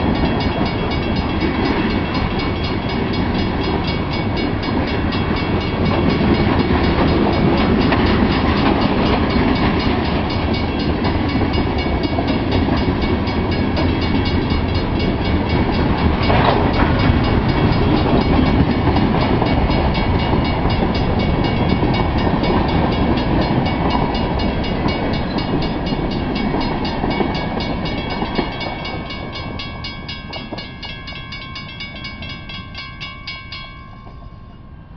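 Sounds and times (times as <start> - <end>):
crossing bell ringing: 0.0 - 34.9
freight train rumbling past: 0.0 - 34.9.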